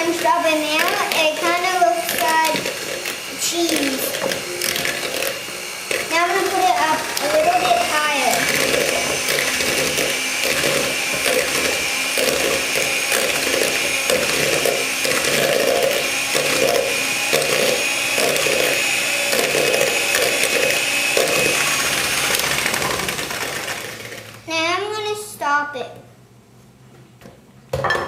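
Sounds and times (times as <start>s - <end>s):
electric mixer motor whine: 0.0s - 24.6s.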